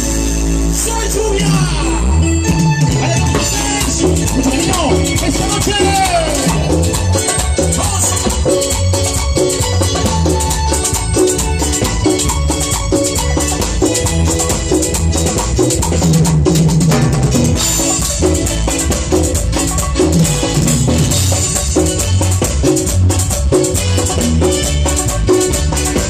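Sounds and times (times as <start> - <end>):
bass line: 0.0 - 26.0
repeating melodic figure: 0.0 - 26.0
drum kit beat: 2.4 - 26.0.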